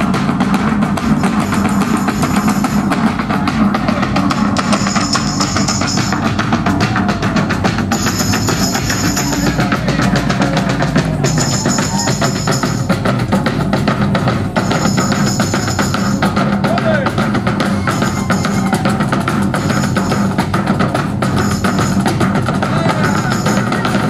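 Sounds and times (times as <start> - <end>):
high ringing layer: 0.0 - 24.0
many drums playing fast: 0.0 - 24.0.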